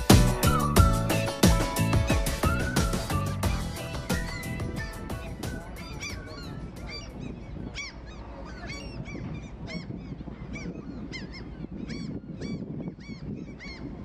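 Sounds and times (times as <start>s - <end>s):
flock of birds calling: 1.1s - 14.0s.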